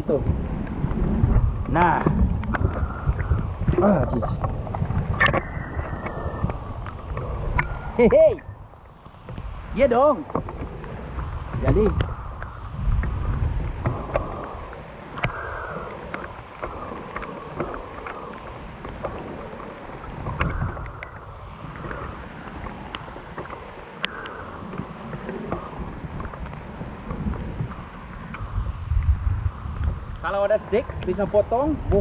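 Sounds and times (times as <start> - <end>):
steady jungle rain: 0.0 - 32.0.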